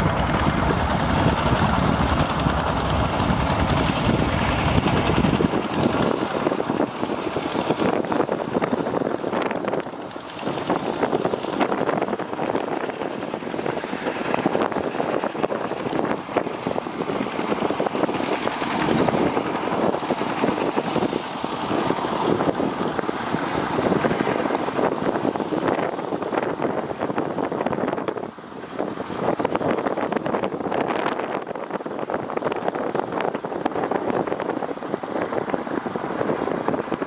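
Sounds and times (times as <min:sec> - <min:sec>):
diesel engine under load: 0:00.0 - 0:37.0
water and mud churning: 0:00.0 - 0:37.0
wind buffeting microphone: 0:00.0 - 0:37.0.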